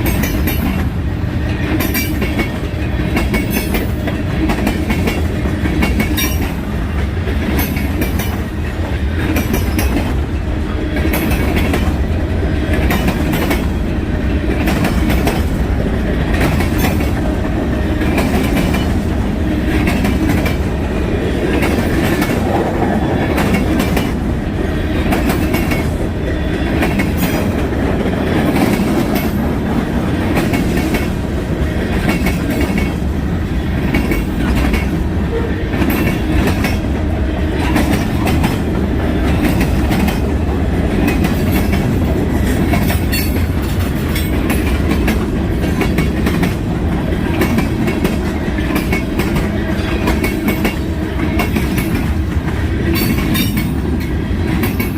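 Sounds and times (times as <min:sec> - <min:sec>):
train wheels clacking over joints: 0:00.0 - 0:12.1, 0:12.7 - 0:20.8, 0:25.0 - 0:33.1, 0:33.7 - 0:36.9, 0:37.5 - 0:54.9.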